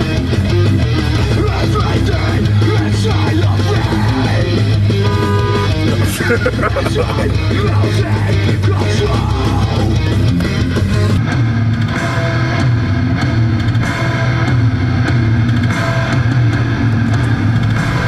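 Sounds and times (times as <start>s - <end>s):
distorted electric guitar: 0.0s - 18.0s
drum kit: 0.0s - 18.0s.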